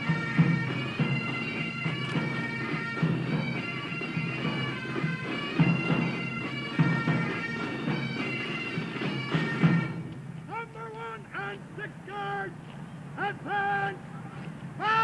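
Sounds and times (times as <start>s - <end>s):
bagpipes playing a tune: 0.0s - 12.4s.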